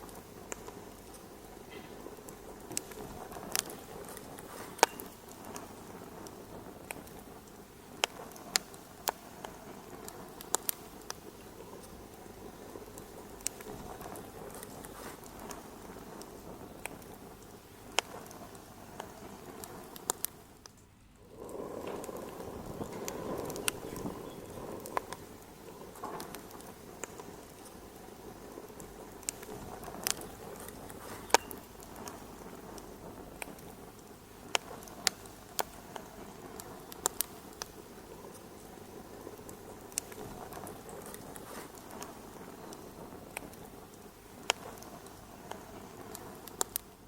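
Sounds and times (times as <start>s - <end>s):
sharp pops: 0.0s - 46.9s
dense steady rustling: 0.0s - 47.0s
low rush of burning: 0.0s - 47.0s
wood fire crackling: 0.0s - 47.0s.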